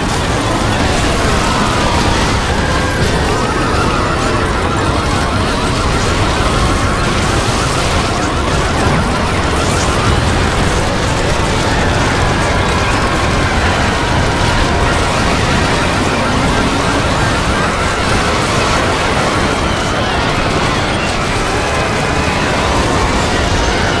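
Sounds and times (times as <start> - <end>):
cartoon music: 0.0 - 24.0
fast rattling pattern: 0.0 - 24.0.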